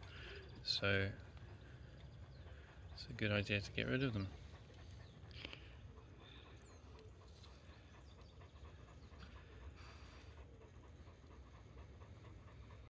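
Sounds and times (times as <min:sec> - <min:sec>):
dog panting: 0:00.0 - 0:12.9.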